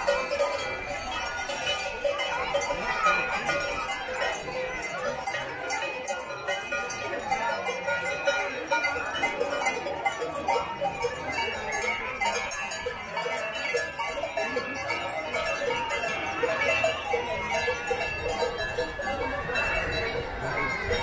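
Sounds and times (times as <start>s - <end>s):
animal bells jangling: 0.0s - 21.0s.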